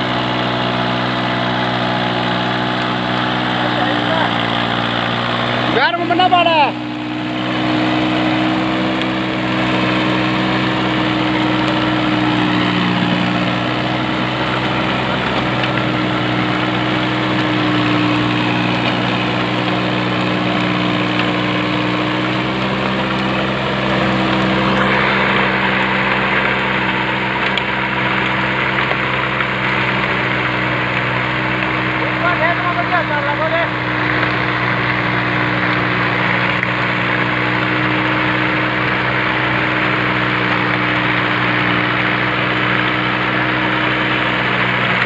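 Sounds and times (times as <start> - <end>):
rotary tiller: 0.0 - 45.0
tractor diesel engine under load: 0.0 - 45.0.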